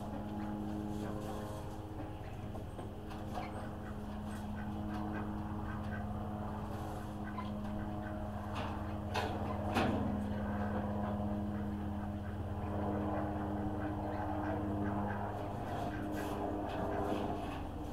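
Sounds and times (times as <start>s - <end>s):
low mechanical hum: 0.0s - 17.9s.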